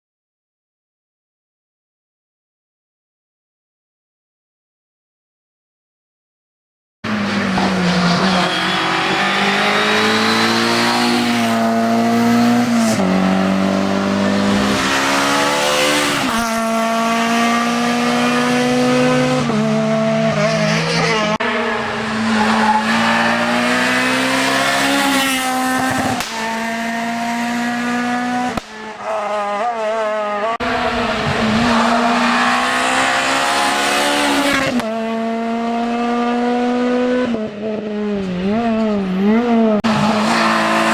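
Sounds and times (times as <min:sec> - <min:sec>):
race car engine revving: 0:07.0 - 0:40.9.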